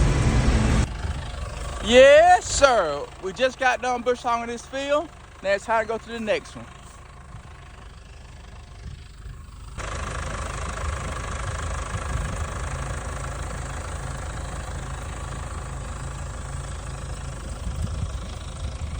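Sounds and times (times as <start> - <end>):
tractor engine running: 0.0 - 18.9.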